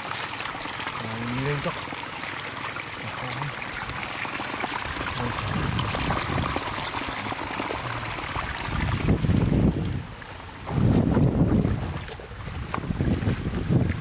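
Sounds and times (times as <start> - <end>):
water running and trickling: 0.0 - 14.0.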